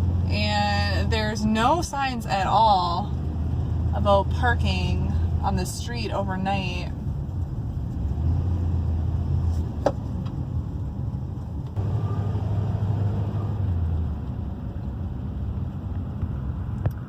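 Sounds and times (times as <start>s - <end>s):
engine and road noise rumble: 0.0s - 17.0s.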